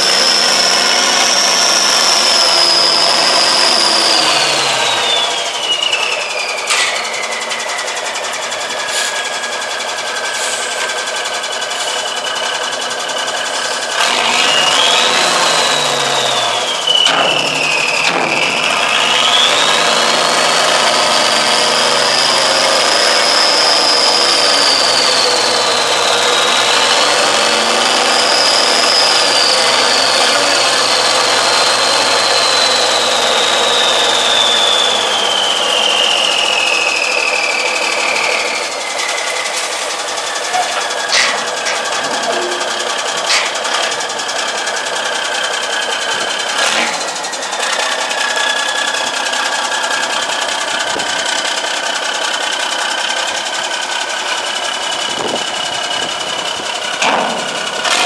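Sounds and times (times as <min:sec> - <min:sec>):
diesel truck engine running: 0:00.0 - 0:58.0
hydraulic pump whining: 0:00.0 - 0:58.0.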